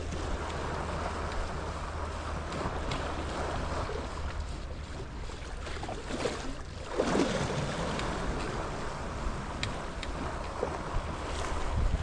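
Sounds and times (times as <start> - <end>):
sea waves washing against rocks: 0.0 - 12.0
wind rumbling on microphone: 0.0 - 12.0.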